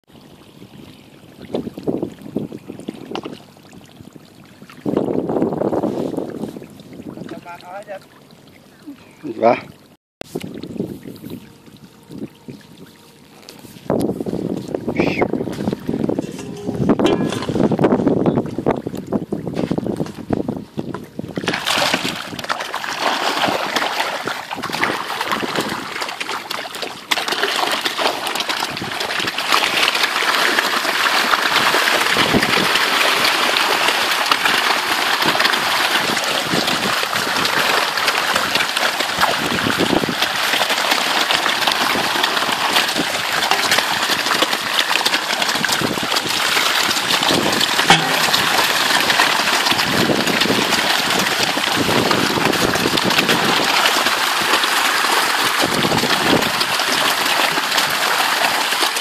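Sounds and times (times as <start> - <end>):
fish splashing at water surface: 0.1 - 8.8, 10.2 - 20.2, 20.9 - 59.0.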